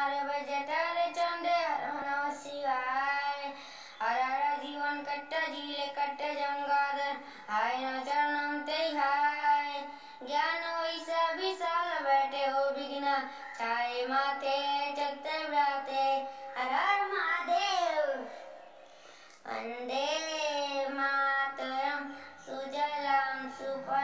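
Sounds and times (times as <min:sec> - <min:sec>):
boy singing a prayer: 0:00.0 - 0:18.6, 0:19.4 - 0:24.0.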